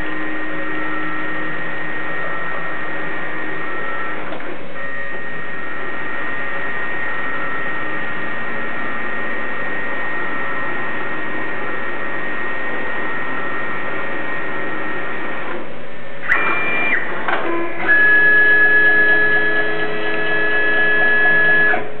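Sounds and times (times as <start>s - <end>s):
high-pitched machine whine: 0.0s - 22.0s
milling machine motor whine: 0.0s - 22.0s.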